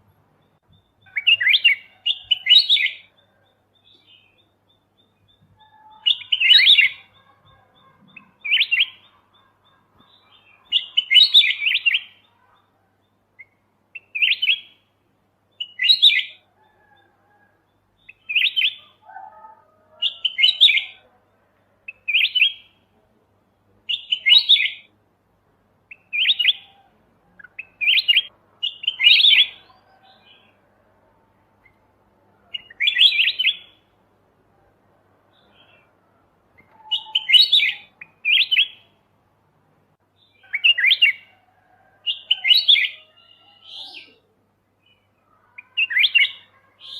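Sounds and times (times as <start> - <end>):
bulbul singing bright phrases: 0.0 - 16.5, 17.7 - 19.0, 20.0 - 25.0, 25.9 - 30.6, 32.5 - 34.0, 36.6 - 39.1, 40.0 - 41.3, 42.1 - 46.9.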